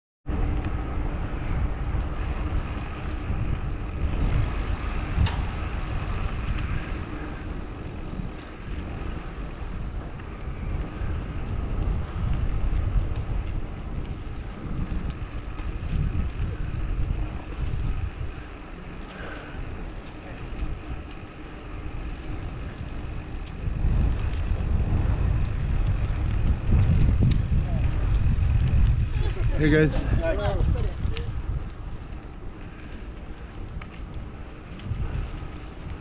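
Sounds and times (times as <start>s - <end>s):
wind rumbling on microphone: 0.3s - 36.0s.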